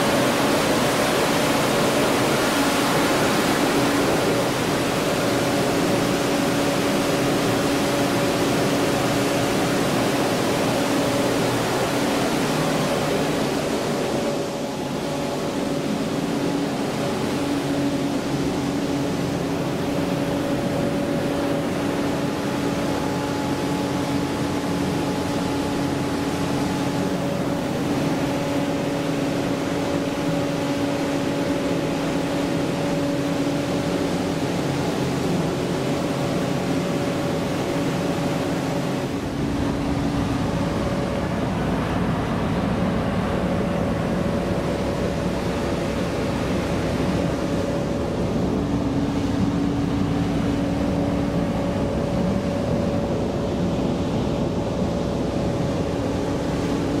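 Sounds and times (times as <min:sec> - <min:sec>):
machinery hum: 0:00.0 - 0:57.0.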